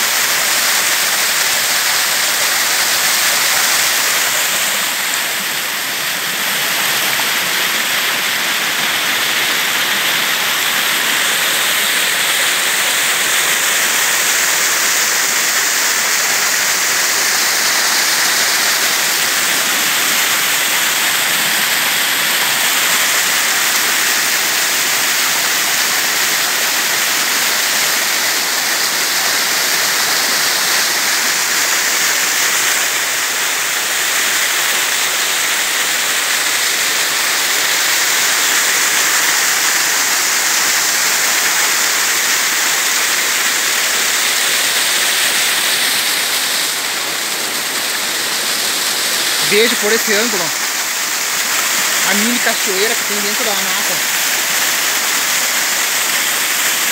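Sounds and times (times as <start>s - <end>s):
waterfall splashing over rocks: 0.0s - 56.9s.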